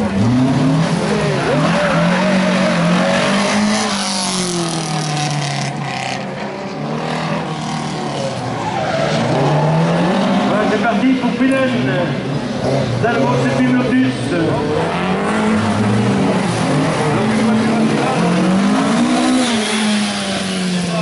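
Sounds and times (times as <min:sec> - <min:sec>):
tyres squealing and skidding: 0:00.0 - 0:10.8, 0:12.3 - 0:21.0
rally car engine revving: 0:00.0 - 0:21.0.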